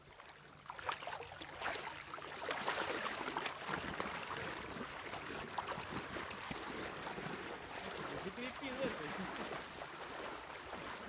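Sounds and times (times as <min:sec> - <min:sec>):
water splashing around wading legs: 0:00.0 - 0:11.0.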